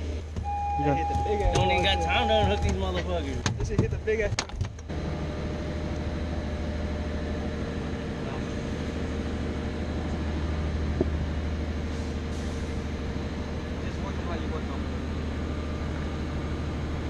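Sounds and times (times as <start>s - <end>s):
boat engine humming: 0.0s - 3.4s, 4.9s - 17.0s.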